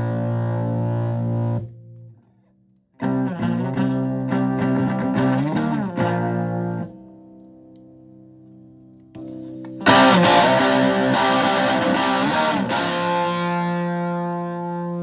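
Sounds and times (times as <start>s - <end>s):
gritty electric guitar: 0.0s - 2.1s, 3.0s - 7.1s, 9.2s - 15.0s.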